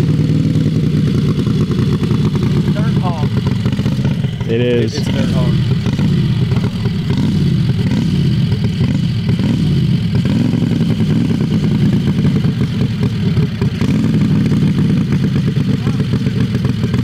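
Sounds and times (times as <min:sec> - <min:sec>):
engine revving under load: 0:00.0 - 0:16.6.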